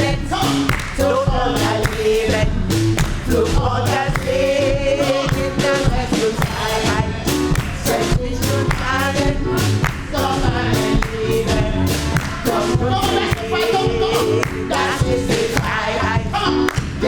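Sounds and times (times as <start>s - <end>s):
band with bass and beat: 0.0s - 17.0s
singers with vibrato: 0.0s - 17.0s.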